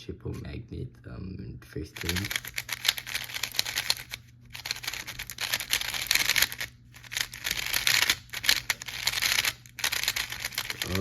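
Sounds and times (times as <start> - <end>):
puzzle cube plastic clicks: 2.0 - 11.0.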